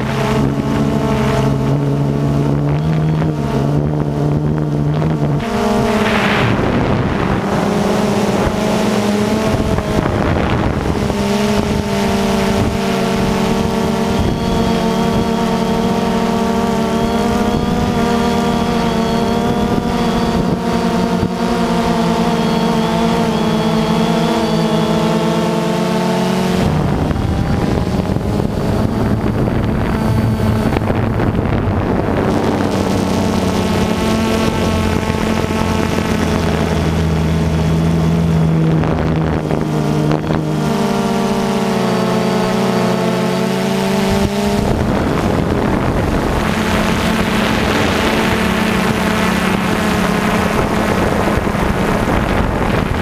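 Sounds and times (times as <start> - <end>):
drone motors whirring: 0.0 - 53.0.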